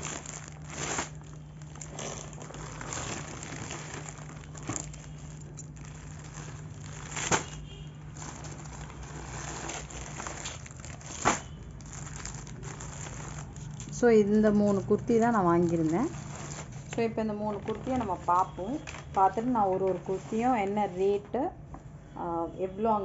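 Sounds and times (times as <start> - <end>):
plastic packets crinkling: 0.0 - 19.5.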